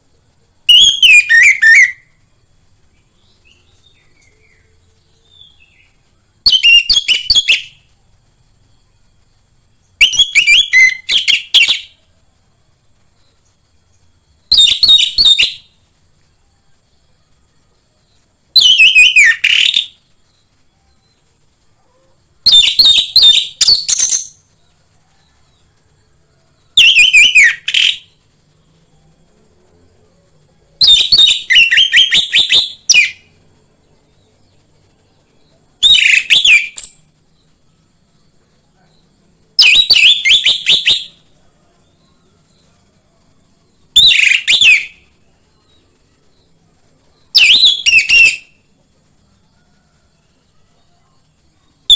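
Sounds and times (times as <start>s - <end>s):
faint steady high hiss: 0.0s - 51.9s.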